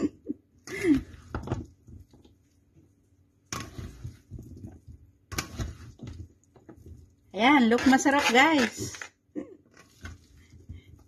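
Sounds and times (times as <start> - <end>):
wet stirring in a metal bowl: 0.6 - 11.0.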